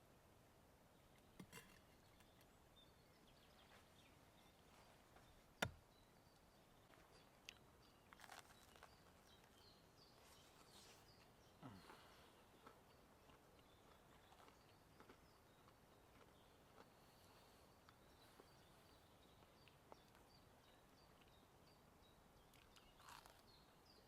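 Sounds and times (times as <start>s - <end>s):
faint bird chirps: 1.0s - 24.0s.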